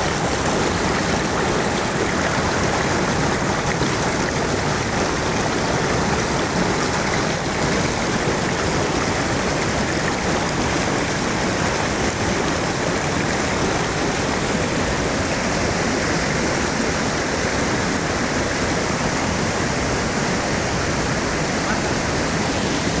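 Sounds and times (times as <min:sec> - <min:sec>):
mountain stream rushing: 0:00.0 - 0:23.0.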